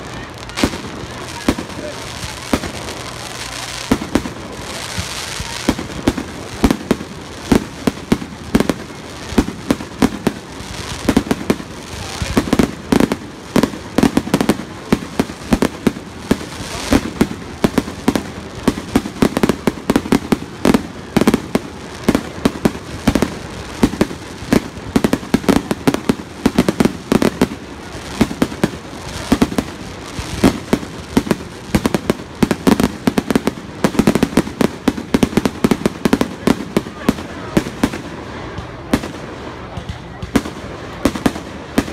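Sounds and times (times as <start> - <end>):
fireworks banging and popping: 0.0 - 41.9.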